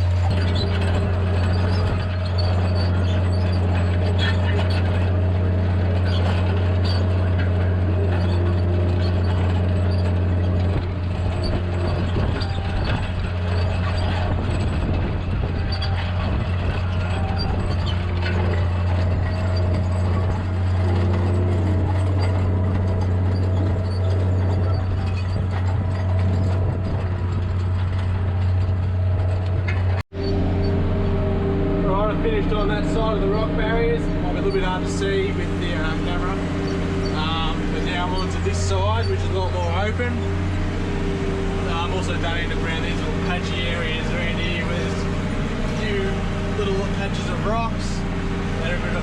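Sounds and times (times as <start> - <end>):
plough knocking and rattling: 0.0 - 49.0
tractor engine under load: 0.0 - 49.0.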